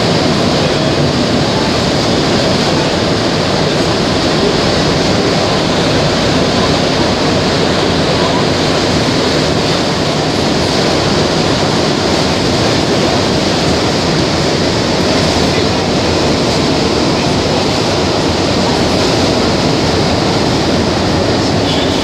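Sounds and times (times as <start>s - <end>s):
metro train rushing in tunnel: 0.0s - 22.0s.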